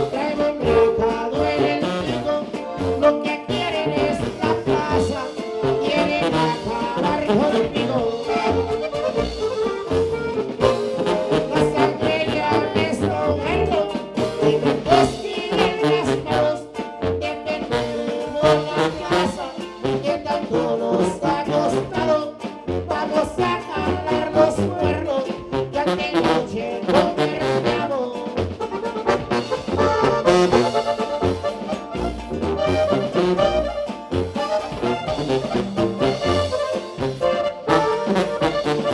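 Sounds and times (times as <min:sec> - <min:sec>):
button accordion melody: 0:00.0 - 0:38.9
guitar strumming chords: 0:00.0 - 0:38.9
sousaphone bass line: 0:00.0 - 0:38.9.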